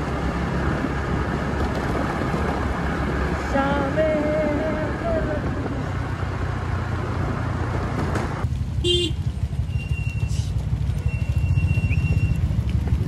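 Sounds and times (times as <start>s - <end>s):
scooter engine and road rumble: 0.0s - 13.0s.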